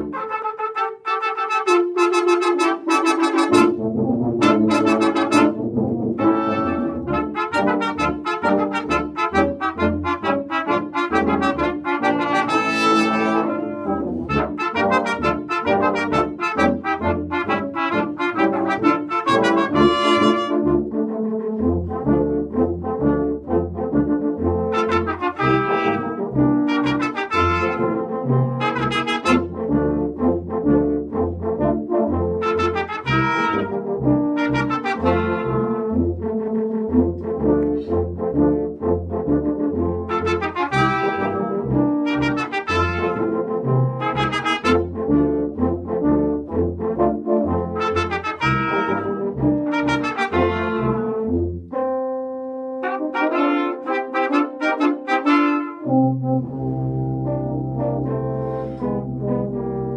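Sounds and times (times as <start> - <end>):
brass ensemble playing: 0.0 - 59.9
tuba bass line: 0.0 - 59.9.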